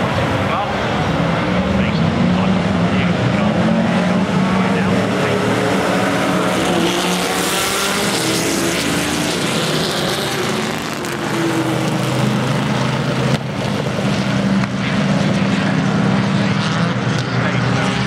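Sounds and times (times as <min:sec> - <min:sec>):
racing car engines revving and passing: 0:00.0 - 0:18.0.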